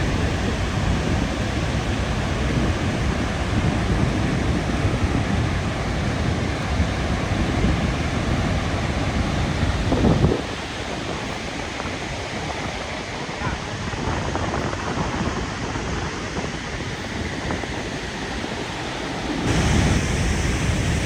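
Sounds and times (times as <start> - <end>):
rushing water roar: 0.0 - 21.0
wind buffeting microphone: 0.0 - 21.0.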